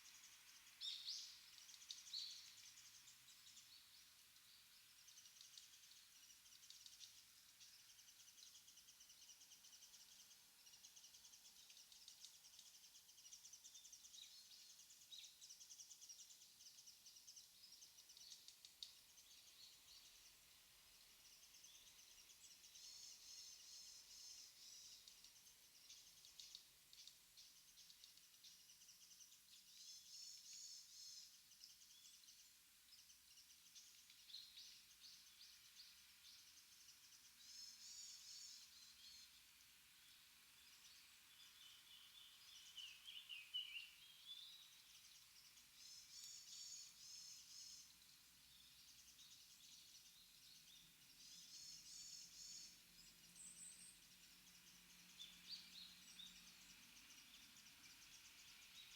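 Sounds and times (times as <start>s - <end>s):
faint background hiss: 0.0s - 58.9s
small birds chirping: 0.0s - 58.9s.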